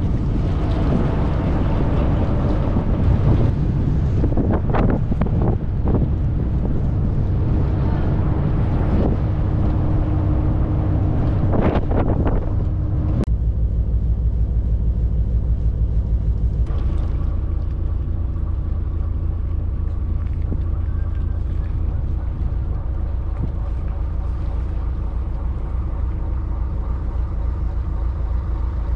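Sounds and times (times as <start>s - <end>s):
ship engine drone: 0.0s - 28.9s
wind buffeting microphone: 0.0s - 28.9s.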